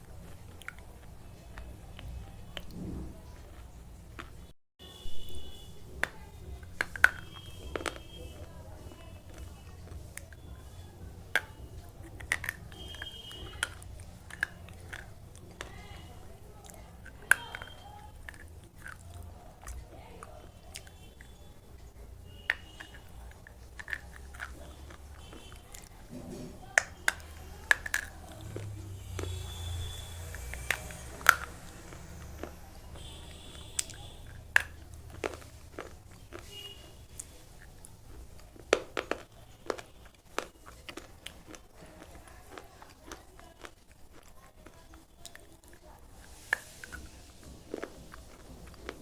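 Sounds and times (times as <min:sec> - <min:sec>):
crisp crunches of chewing: 0:05.5 - 0:21.4, 0:22.3 - 0:49.0.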